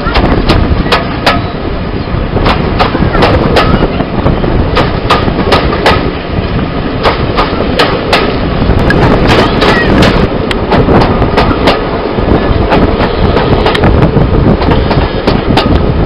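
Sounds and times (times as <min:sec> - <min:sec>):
train rumbling: 0:00.0 - 0:16.0
train wheels clicking over rail joints: 0:00.0 - 0:16.0
wind rushing past window: 0:00.0 - 0:16.0.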